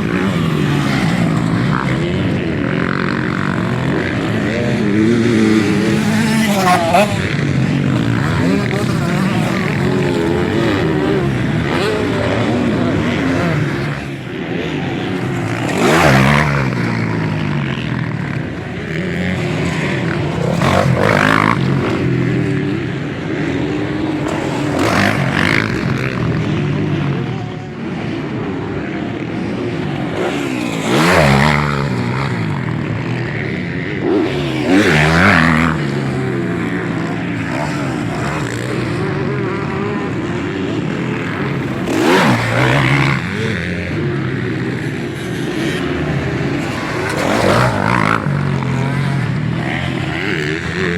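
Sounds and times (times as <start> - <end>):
motocross bikes revving: 0.0 - 50.9.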